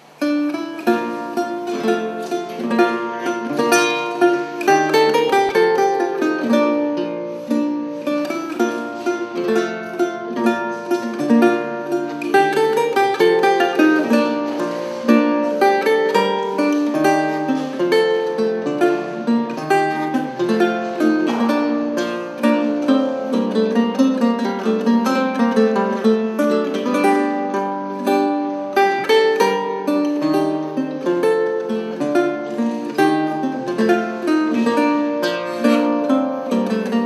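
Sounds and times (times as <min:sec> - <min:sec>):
plucked lute: 0:00.0 - 0:37.0.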